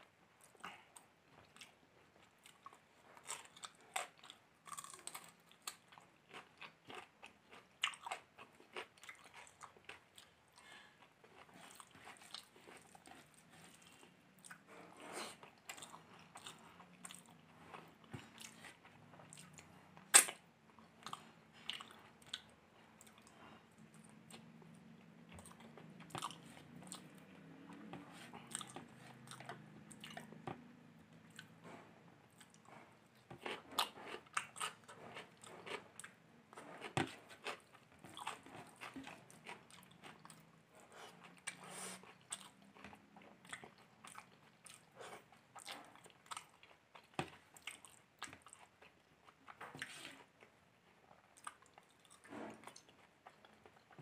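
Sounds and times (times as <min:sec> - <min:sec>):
chewing and lip smacks: 0:00.4 - 0:14.7, 0:15.4 - 0:31.7, 0:36.8 - 0:54.0.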